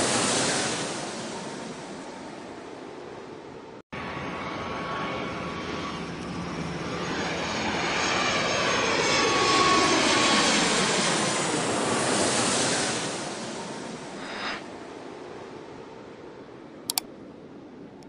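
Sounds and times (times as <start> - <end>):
jet airliner flying past: 0.0 - 3.3, 4.0 - 16.4.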